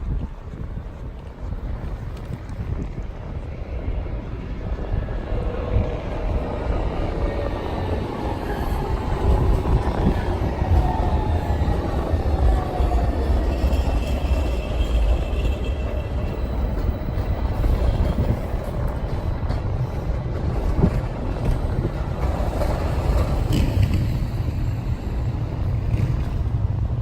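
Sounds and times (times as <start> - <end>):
tram rumbling past: 0.0 - 27.0.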